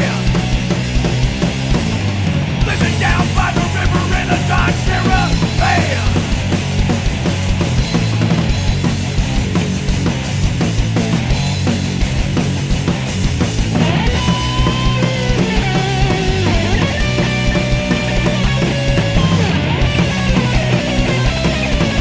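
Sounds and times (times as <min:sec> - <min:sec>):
punk band playing live: 0:00.0 - 0:22.0.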